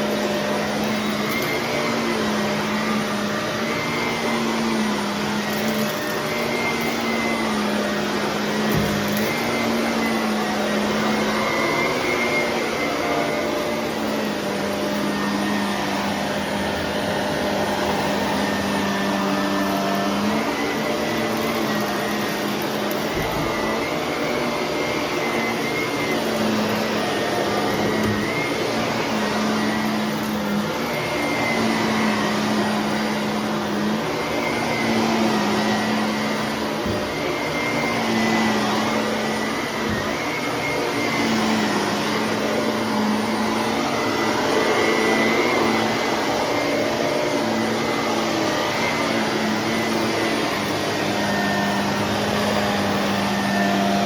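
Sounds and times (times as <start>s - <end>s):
vacuum cleaner suction whoosh: 0.0s - 54.0s
vacuum motor hum: 0.0s - 54.0s.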